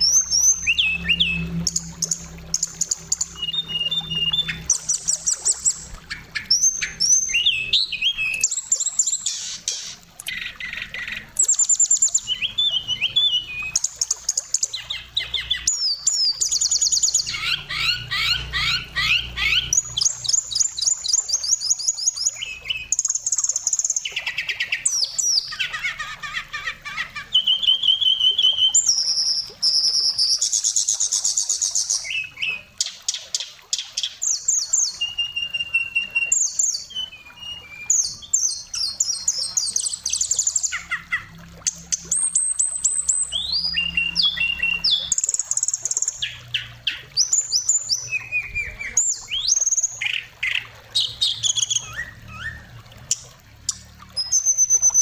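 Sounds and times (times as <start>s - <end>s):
bird singing: 0.0s - 41.4s, 42.0s - 55.0s.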